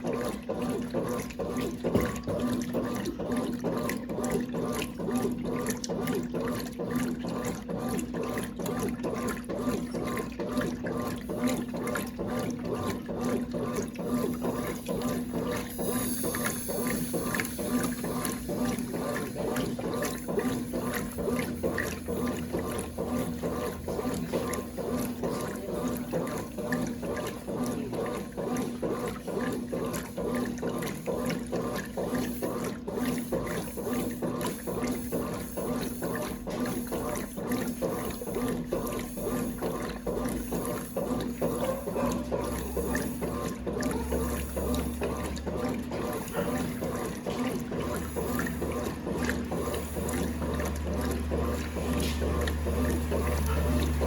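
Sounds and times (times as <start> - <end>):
washing machine motor hum: 0.0 - 54.0
water sloshing in washing machine: 0.0 - 54.0.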